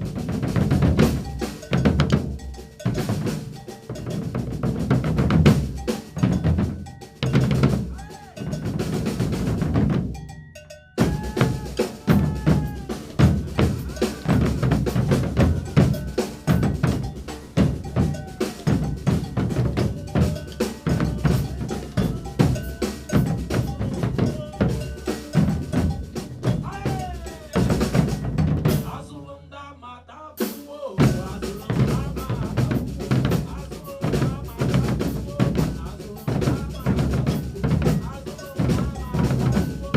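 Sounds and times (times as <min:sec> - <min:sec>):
bell: 0:00.0 - 0:29.0, 0:31.0 - 0:39.9
percussion group drumming: 0:00.0 - 0:29.1, 0:30.4 - 0:39.9.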